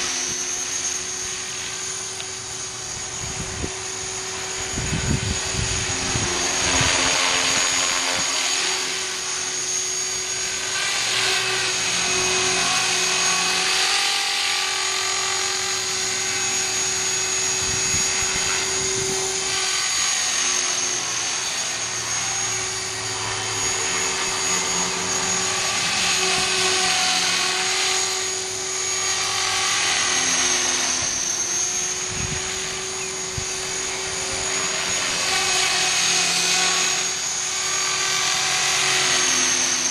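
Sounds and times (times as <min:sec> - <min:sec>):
rc helicopter motor whine: 0:00.0 - 0:39.9
rotor humming: 0:00.0 - 0:39.9.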